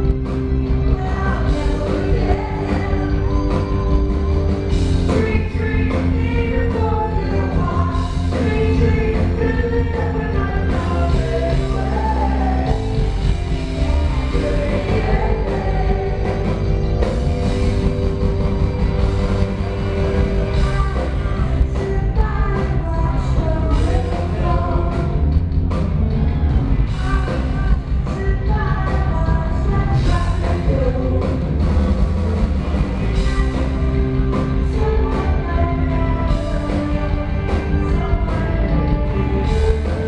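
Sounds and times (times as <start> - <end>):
woman singing lead: 0.0 - 31.8, 32.8 - 40.0
live rock band playing: 0.0 - 40.0.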